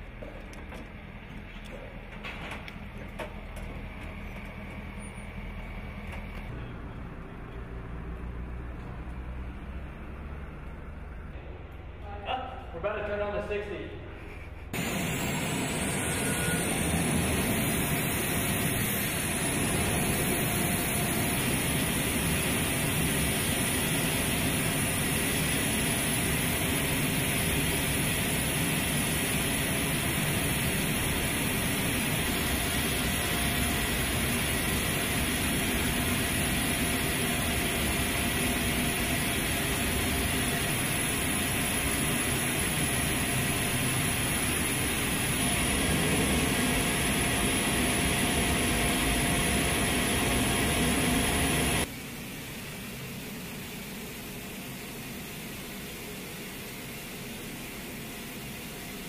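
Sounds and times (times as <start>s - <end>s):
gas turbine power cart whine: 0.0s - 59.0s.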